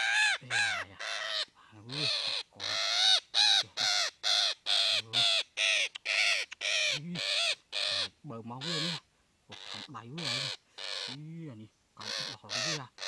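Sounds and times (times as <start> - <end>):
parrot screeching: 0.0 - 9.0, 9.6 - 11.2, 12.0 - 13.0.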